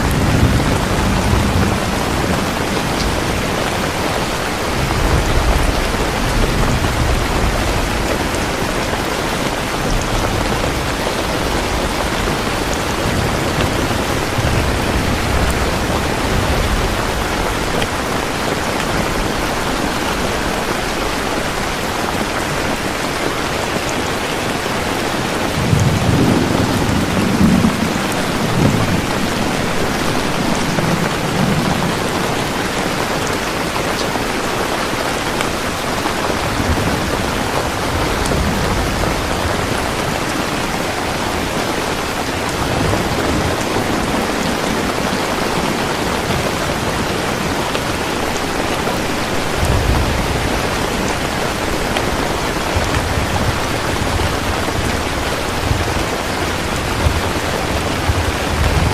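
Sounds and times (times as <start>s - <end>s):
steady rain pouring: 0.0s - 58.9s
thunder rumbling: 0.0s - 58.9s.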